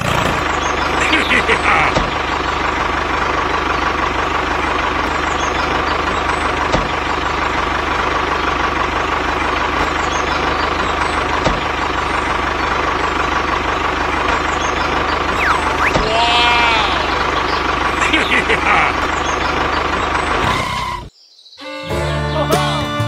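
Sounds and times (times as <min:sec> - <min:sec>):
tractor engine idling: 0:00.0 - 0:21.1.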